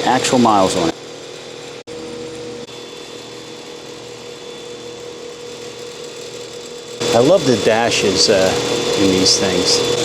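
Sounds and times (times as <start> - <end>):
mechanical hum and hiss: 0.0 - 10.0.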